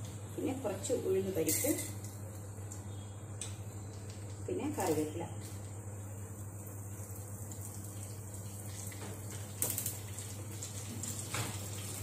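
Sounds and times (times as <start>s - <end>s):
spices sizzling in hot oil: 0.6s - 12.0s.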